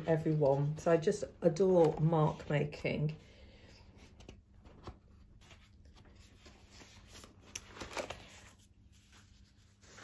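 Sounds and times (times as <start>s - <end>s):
sketchbook pages turning: 0.0s - 2.9s, 3.7s - 10.0s.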